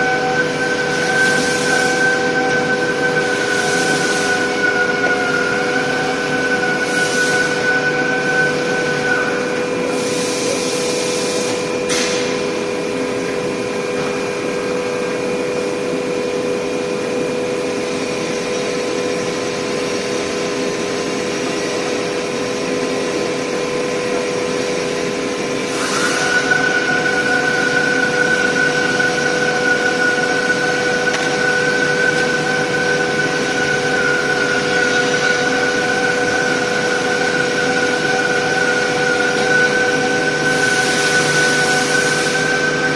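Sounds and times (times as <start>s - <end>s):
high steady whine: 0.0s - 42.9s
machine hum: 0.0s - 42.9s.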